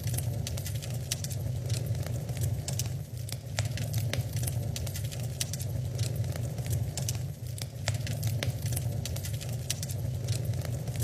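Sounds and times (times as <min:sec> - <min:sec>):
fire crackling and popping: 0:00.0 - 0:11.0
low rumble of flames: 0:00.0 - 0:11.0.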